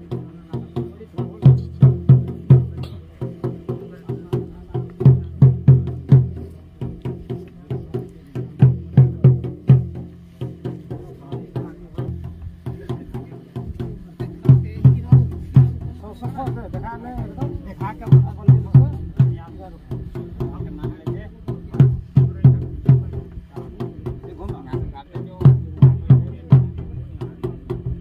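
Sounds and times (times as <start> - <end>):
fast percussion beat: 0.0 - 28.0
strong low drum hits: 0.0 - 28.0.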